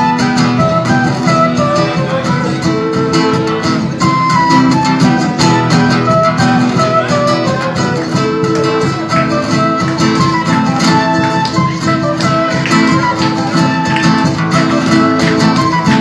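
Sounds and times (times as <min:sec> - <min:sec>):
sliding melody line: 0:00.0 - 0:16.0
strummed acoustic guitars: 0:00.0 - 0:16.0.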